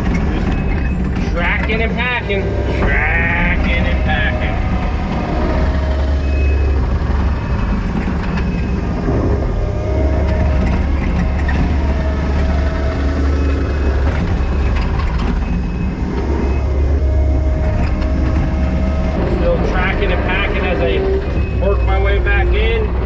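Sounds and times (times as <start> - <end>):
diesel engine under load: 0.0 - 23.0
tracks compacting gravel: 0.0 - 23.0.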